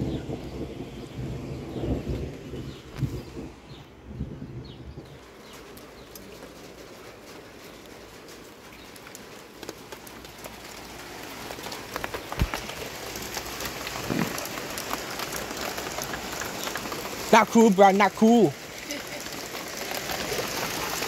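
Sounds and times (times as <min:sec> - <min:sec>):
rain falling: 0:00.0 - 0:21.0
raindrops ticking on surfaces: 0:00.0 - 0:21.0.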